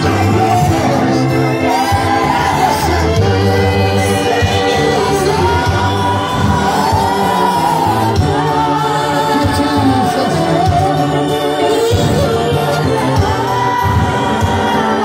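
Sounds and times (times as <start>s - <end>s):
gospel choir singing: 0.0s - 15.0s.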